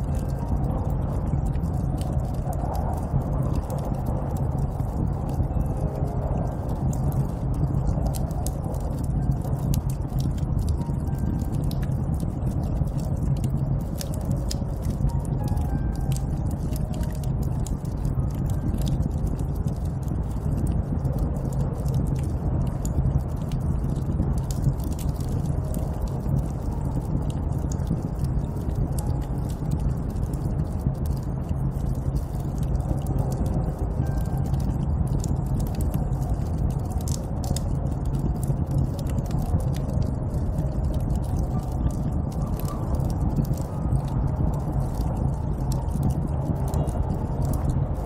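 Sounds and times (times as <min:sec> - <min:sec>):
small crackles and ticks: 0:00.0 - 0:48.0
snowstorm wind blowing: 0:00.0 - 0:48.0.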